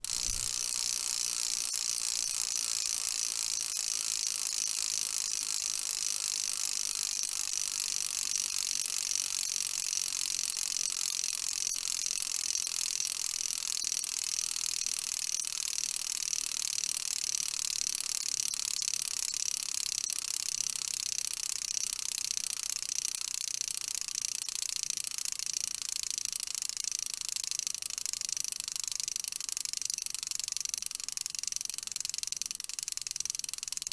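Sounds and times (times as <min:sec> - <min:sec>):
bicycle hub ratchet clicking: 0:00.0 - 0:33.9.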